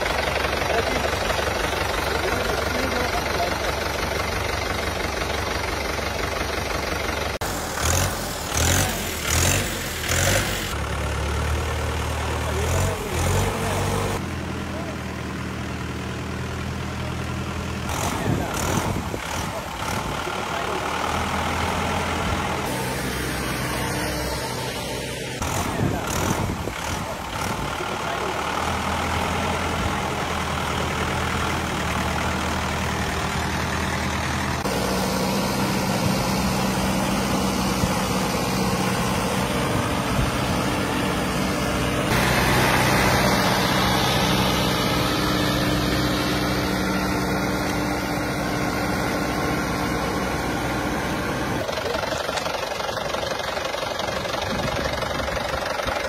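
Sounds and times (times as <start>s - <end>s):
tractor diesel engine: 0.0s - 56.0s.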